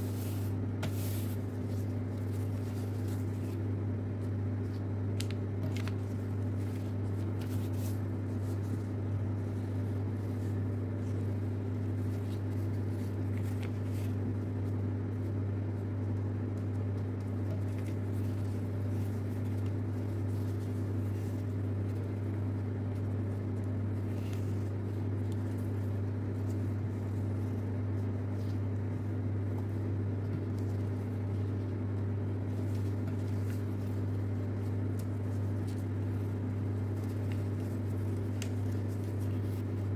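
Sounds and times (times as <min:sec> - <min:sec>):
paper being folded and creased: 0:00.0 - 0:39.9
steady low hum: 0:00.0 - 0:39.9.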